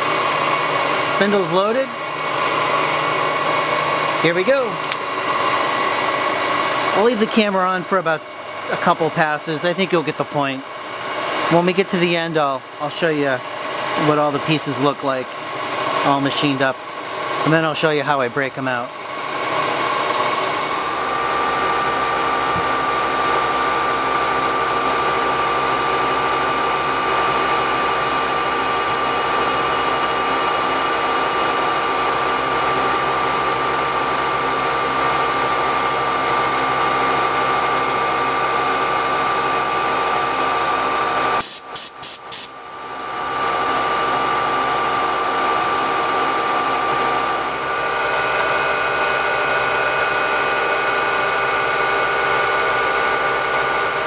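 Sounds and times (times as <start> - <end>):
milling machine spindle whine: 0.0 - 54.0.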